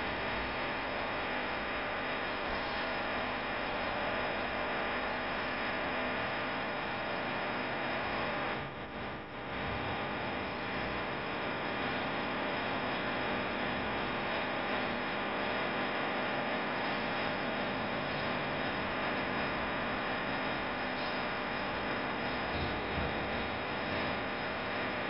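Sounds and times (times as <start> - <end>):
potter's wheel motor hum: 0.0 - 25.0.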